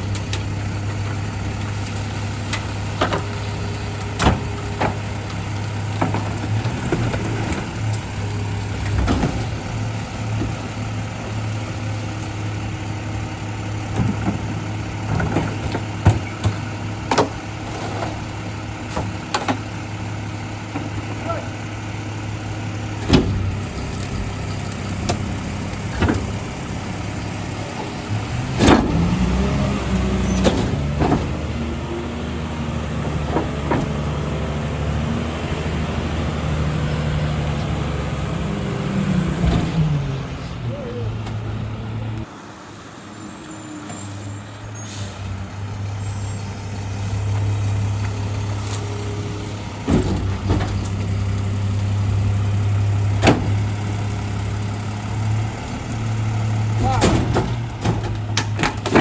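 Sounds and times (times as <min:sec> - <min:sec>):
trees being crushed: 0:00.0 - 0:42.2, 0:46.6 - 0:59.0
garbage truck engine revving: 0:00.0 - 0:59.0.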